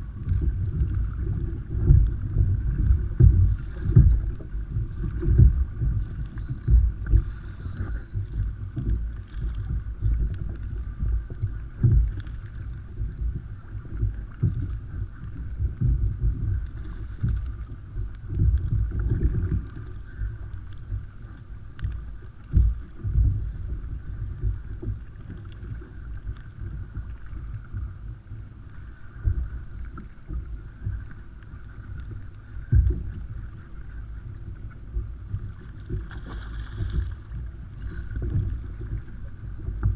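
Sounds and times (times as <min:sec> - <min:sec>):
water slapping against kayak: 0:00.0 - 0:39.9.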